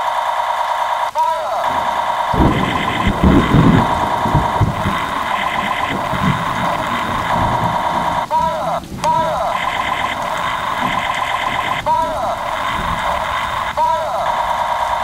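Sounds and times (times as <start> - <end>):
sweeping laser-like chirp: 1.4 - 8.3, 9.4 - 15.0
buzzy warbling electronic tone: 1.6 - 8.3, 9.2 - 15.0
low pulsing rumble: 1.7 - 14.3.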